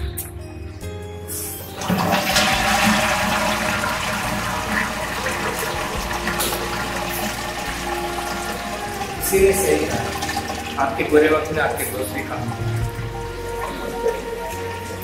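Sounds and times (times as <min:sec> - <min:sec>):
toilet flushing: 0:01.7 - 0:15.0.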